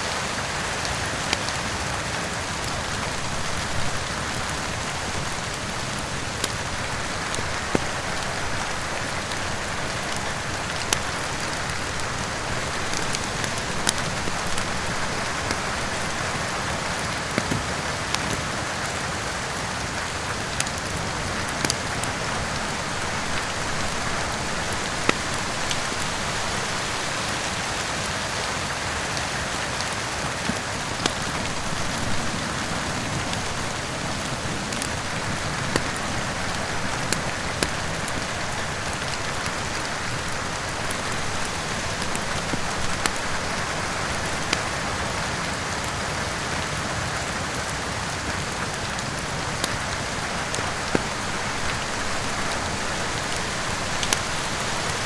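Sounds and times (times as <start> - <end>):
heavy rain: 0.0 - 55.0
wood fire crackling: 0.0 - 55.0.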